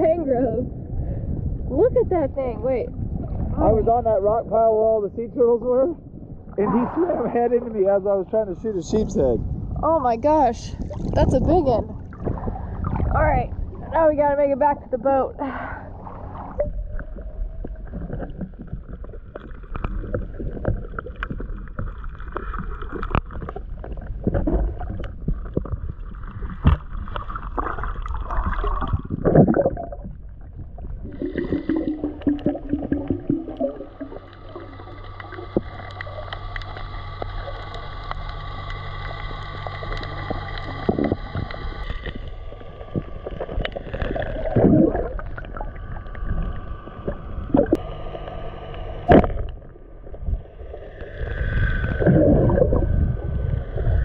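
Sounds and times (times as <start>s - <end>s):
water rushing underwater: 0.0s - 4.8s, 5.4s - 54.0s
boat motor underwater: 0.0s - 54.0s.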